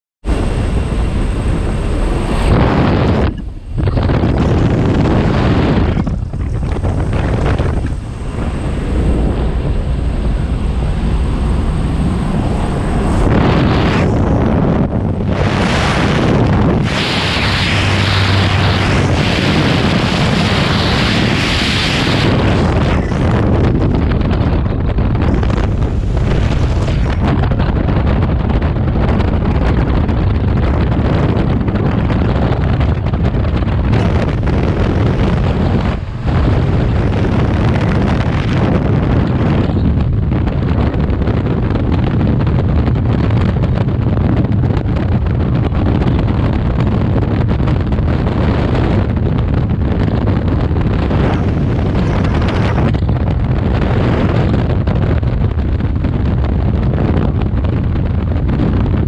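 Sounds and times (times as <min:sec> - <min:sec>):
freefall wind rushing: 0:00.2 - 0:59.0.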